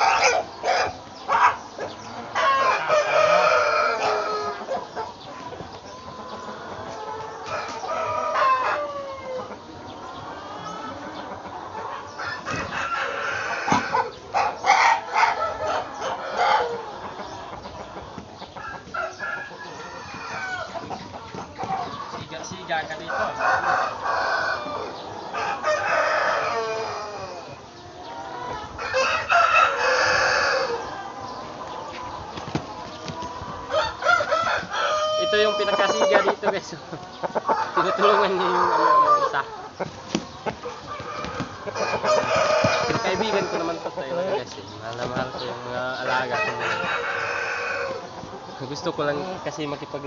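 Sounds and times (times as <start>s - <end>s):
chickens clucking: 0.0s - 50.0s
roosters crowing: 0.0s - 50.0s.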